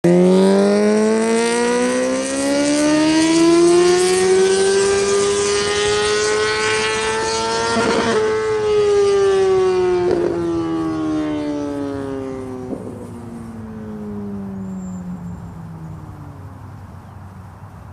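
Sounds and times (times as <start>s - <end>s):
motorcycle passing loudly: 0.0s - 17.9s.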